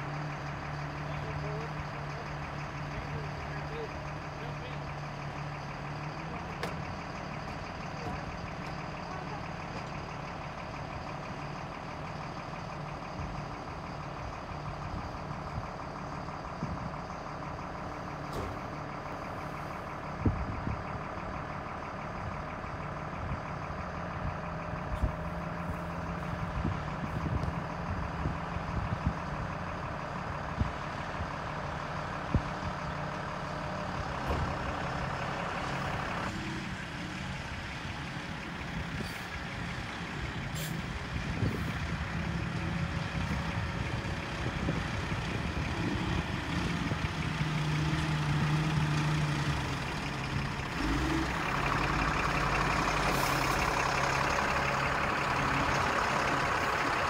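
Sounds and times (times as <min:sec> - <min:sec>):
distant diesel truck engine: 0:00.0 - 0:57.0.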